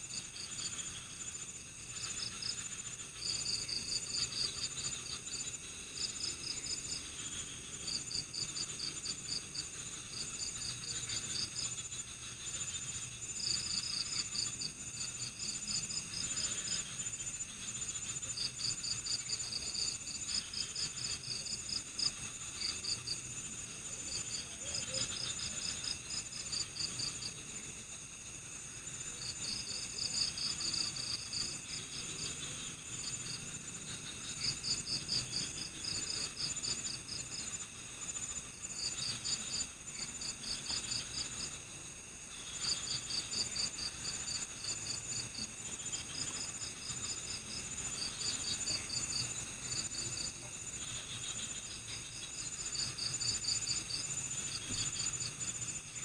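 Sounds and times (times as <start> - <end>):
insects trilling: 0.0 - 56.0
rapid pulsed insect chirping: 0.0 - 56.0.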